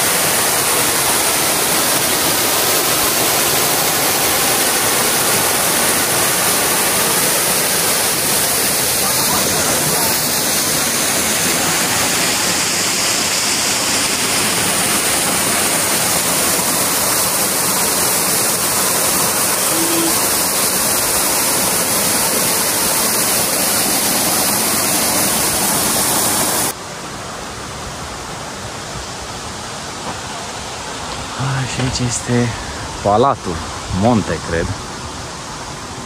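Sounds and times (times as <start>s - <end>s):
falling water rushing: 0.0s - 36.0s
quieter hiss: 0.0s - 36.0s.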